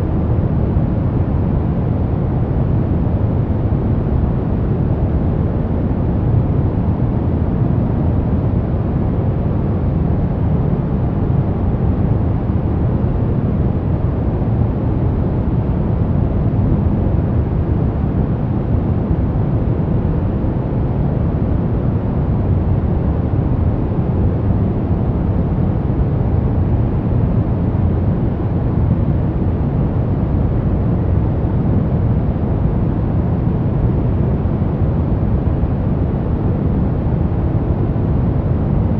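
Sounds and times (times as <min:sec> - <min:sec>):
deep white noise: 0:00.0 - 0:38.9.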